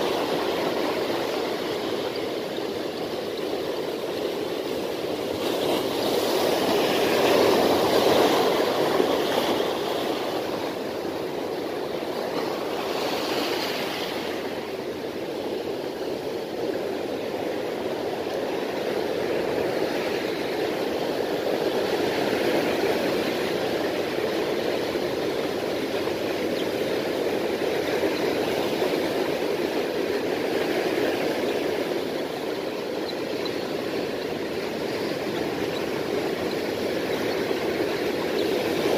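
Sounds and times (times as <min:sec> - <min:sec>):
sea surf washing over sand: 0:00.0 - 0:38.9
waves breaking: 0:00.0 - 0:38.9.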